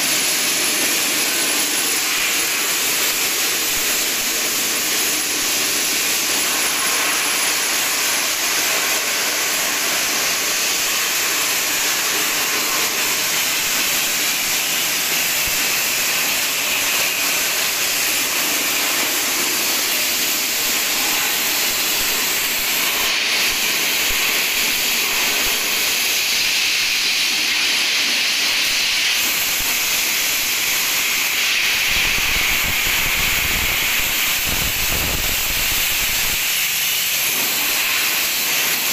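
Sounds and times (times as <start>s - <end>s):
abrasive blasting hiss: 0.0s - 38.9s.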